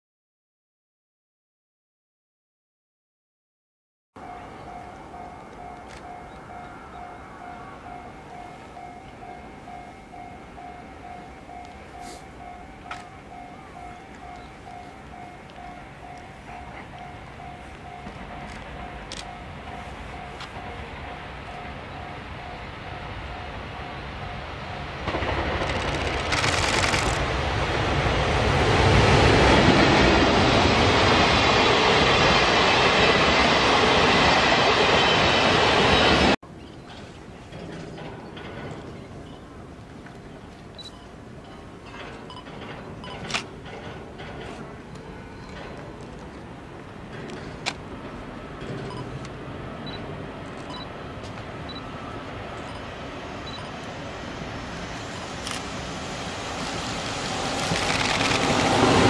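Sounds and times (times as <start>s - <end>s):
train wheels rumbling on rails: 4.2s - 59.0s.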